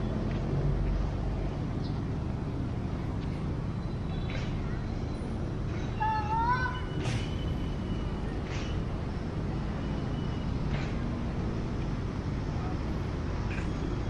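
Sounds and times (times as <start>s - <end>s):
low rumble of passing vehicles: 0.0s - 14.0s.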